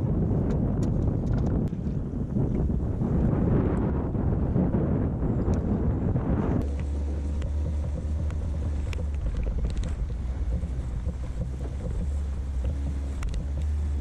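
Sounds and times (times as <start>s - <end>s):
outboard motor droning: 0.0s - 14.0s
wind buffeting microphone: 0.0s - 14.0s.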